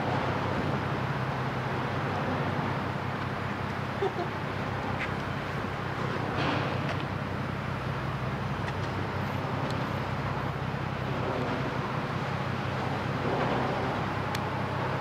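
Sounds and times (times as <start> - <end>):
constant hum: 0.0 - 15.0
low engine drone: 0.0 - 15.0.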